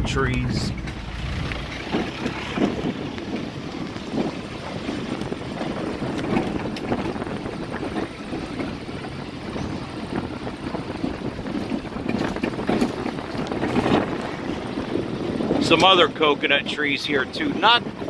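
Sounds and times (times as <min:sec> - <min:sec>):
knocks and rattles over bumps: 0:00.0 - 0:15.8
vehicle on dirt road rumbling: 0:00.0 - 0:18.0.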